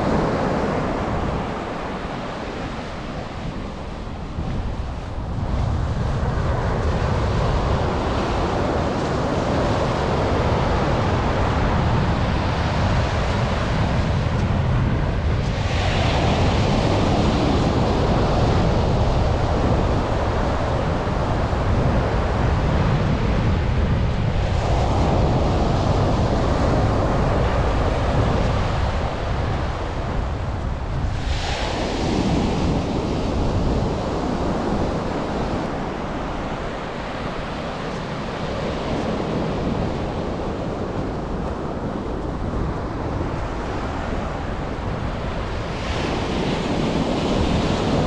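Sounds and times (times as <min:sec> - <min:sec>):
surf washing onto beach: 0:00.0 - 0:48.0
wind rumbling on microphone: 0:00.0 - 0:48.0.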